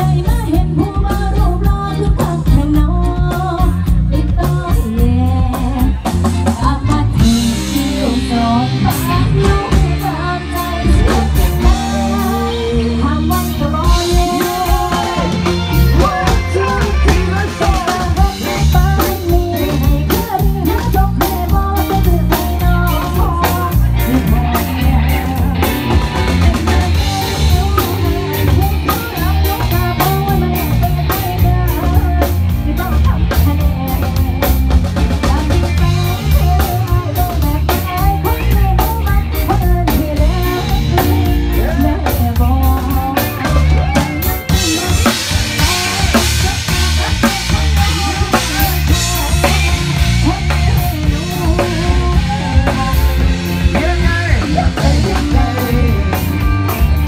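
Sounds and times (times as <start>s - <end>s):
rock band playing loudly: 0.0s - 57.0s.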